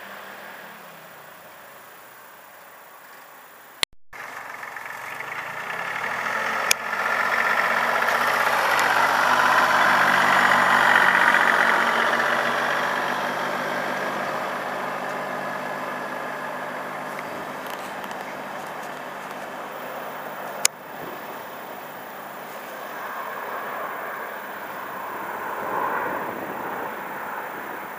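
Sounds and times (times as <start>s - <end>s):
tractor engine driving past: 0.0s - 2.6s, 4.2s - 27.9s.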